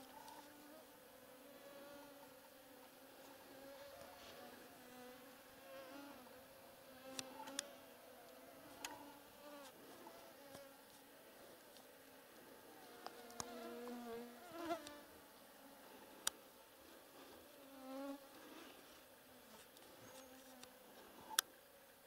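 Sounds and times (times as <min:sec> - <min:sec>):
flying insects buzzing: 0:00.0 - 0:22.0.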